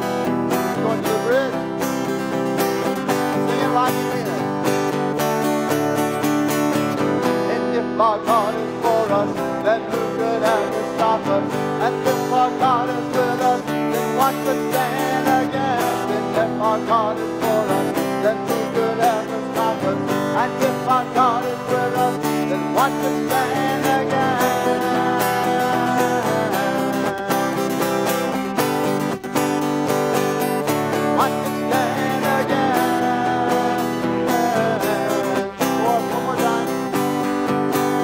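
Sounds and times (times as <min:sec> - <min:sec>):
strummed acoustic guitar: 0:00.0 - 0:38.0.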